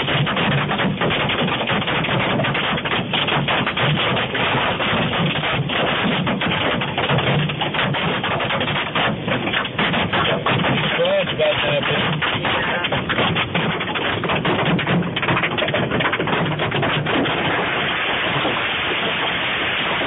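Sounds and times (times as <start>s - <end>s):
hail pelting down: 0.0s - 20.0s.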